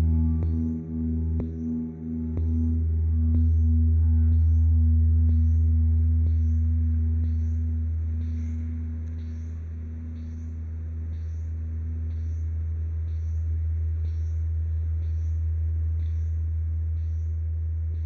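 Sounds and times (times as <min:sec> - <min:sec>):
low drone: 0:00.0 - 0:18.0
mid-pitched tone: 0:00.0 - 0:18.0.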